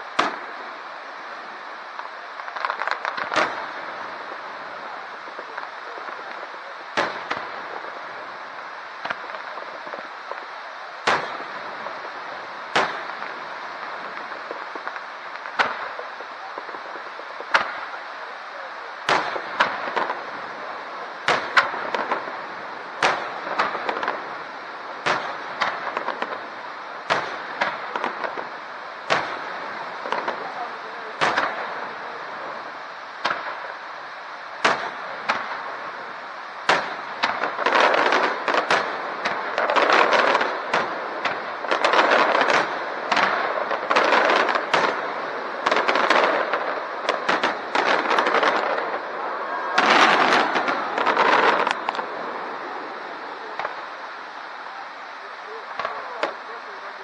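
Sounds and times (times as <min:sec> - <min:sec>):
fireworks bangs: 0:00.0 - 0:57.0
fireworks crackling: 0:00.0 - 0:57.0.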